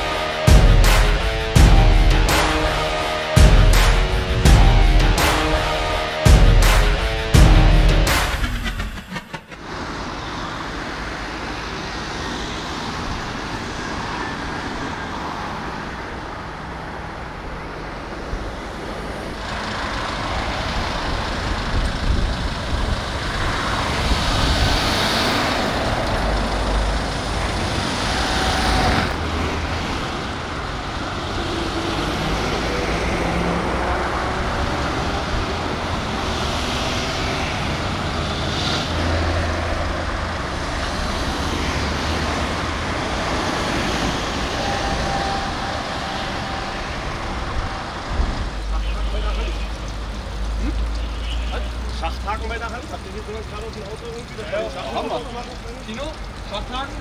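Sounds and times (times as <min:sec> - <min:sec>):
motorway traffic rumble: 0:00.0 - 0:57.0.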